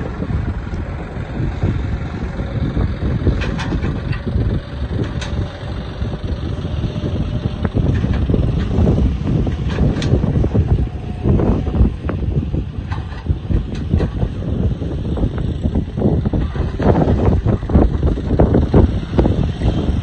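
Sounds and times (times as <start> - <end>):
heavy machine engine rumbling: 0.0 - 20.0.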